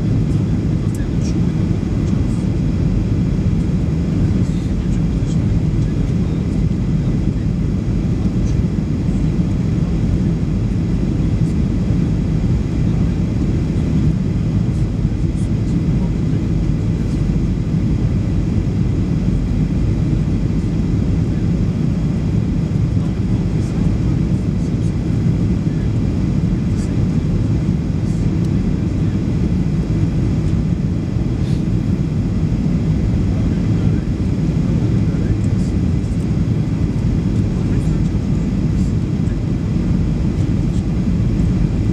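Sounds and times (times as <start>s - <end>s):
airliner engines roaring in cabin: 0.0s - 41.9s.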